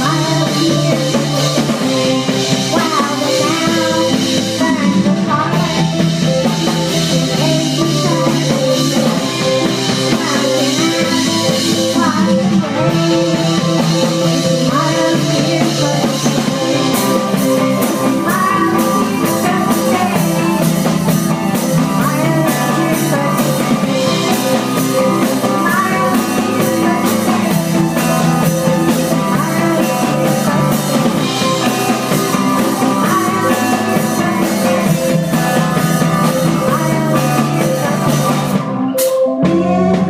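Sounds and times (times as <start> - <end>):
drum beat: 0.0 - 38.7
electric bass: 0.0 - 40.0
keyboard: 0.0 - 40.0.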